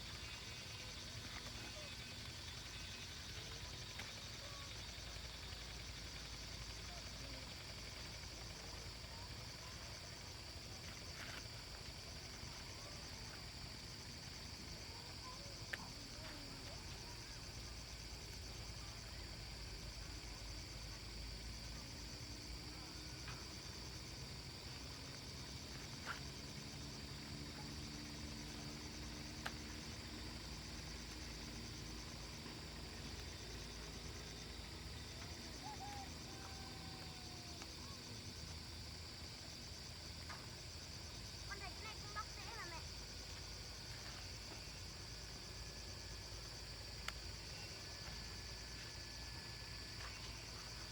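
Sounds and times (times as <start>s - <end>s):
insects chirping: 0.0s - 50.9s.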